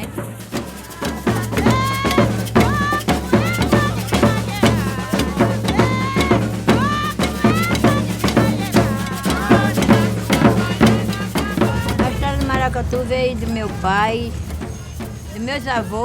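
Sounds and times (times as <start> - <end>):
bass drums and snare drums: 0.0 - 16.0.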